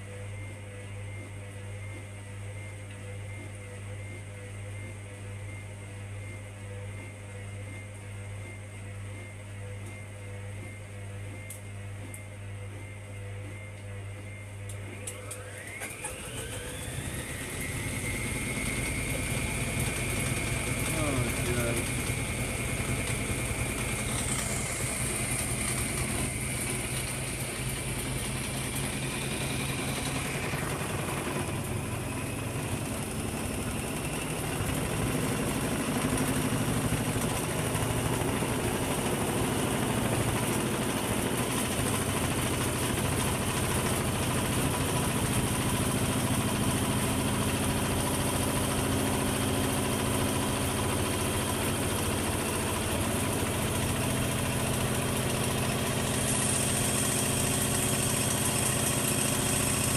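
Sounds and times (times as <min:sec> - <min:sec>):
high motor whine: 0:00.0 - 0:59.9
washing machine motor humming: 0:00.0 - 0:59.9.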